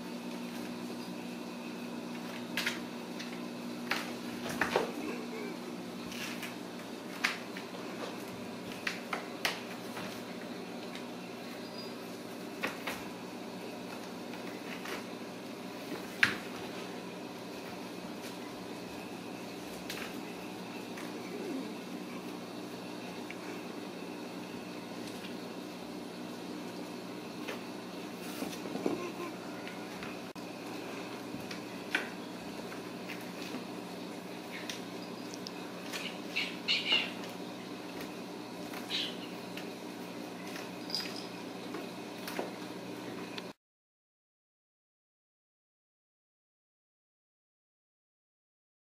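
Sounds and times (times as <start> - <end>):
low room hum: 0.0 - 43.6.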